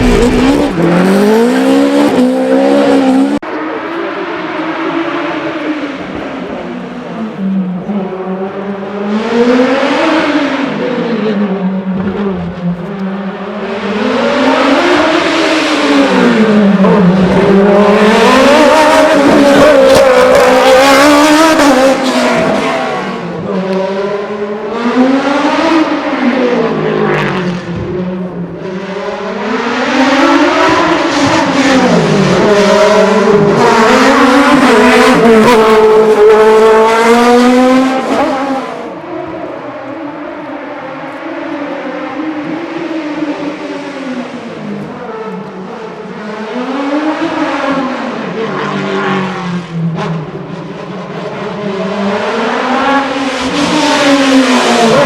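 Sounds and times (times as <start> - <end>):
racing car engine revving: 0.0 - 3.4, 13.3 - 28.0, 28.6 - 55.0.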